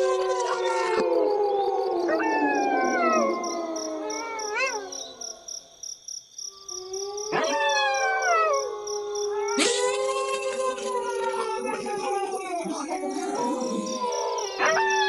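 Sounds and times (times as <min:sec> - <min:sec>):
wolves howling: 0:00.0 - 0:05.5, 0:06.8 - 0:15.0
crickets chirping: 0:00.0 - 0:15.0.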